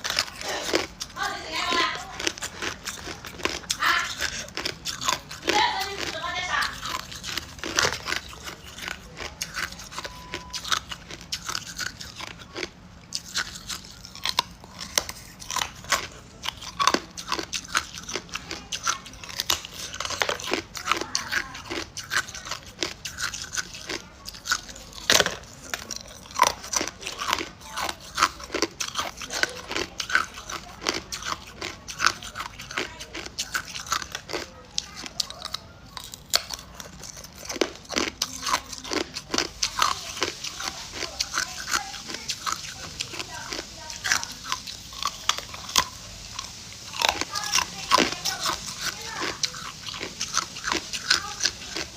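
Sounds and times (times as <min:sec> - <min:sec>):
ice cubes crunching while chewed: 0:00.0 - 0:51.9.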